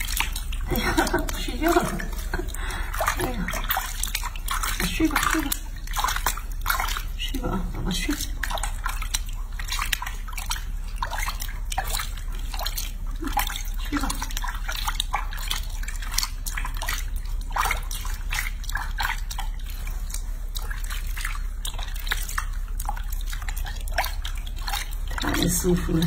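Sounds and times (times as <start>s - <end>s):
water splashing in a basin: 0.0s - 26.0s.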